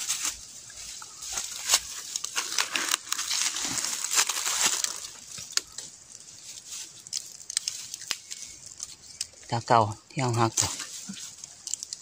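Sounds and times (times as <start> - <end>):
small stems snapping: 0.0 - 9.4, 10.5 - 12.0
leaves and twigs rustling: 0.0 - 12.0.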